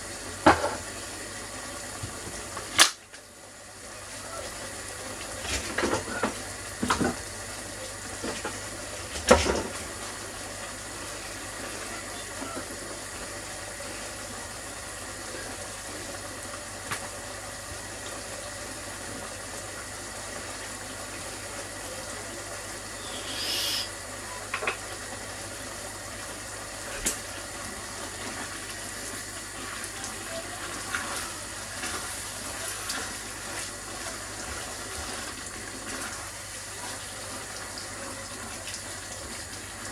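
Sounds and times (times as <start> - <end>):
chicken sizzling in a pot: 0.0 - 39.9.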